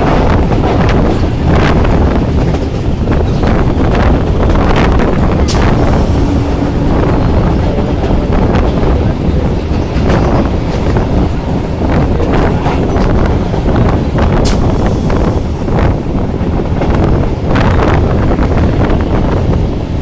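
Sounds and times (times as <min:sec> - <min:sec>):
passenger train running: 0:00.0 - 0:20.0
wind buffeting microphone: 0:00.0 - 0:20.0.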